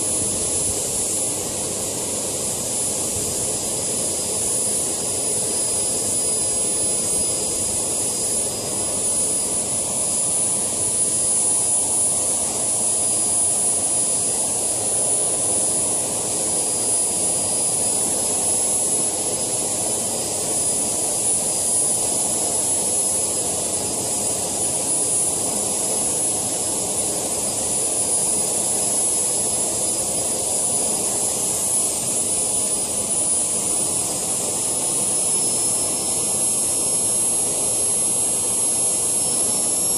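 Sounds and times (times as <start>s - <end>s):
turbine whine: 0.0s - 39.9s.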